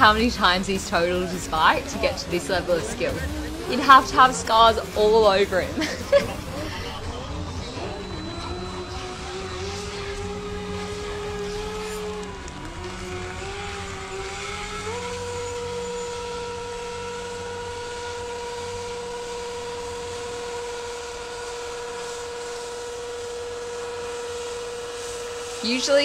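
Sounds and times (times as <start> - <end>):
motorcycle engine at high revs: 0.0 - 26.0
tyre spinning in burnout: 0.0 - 26.0.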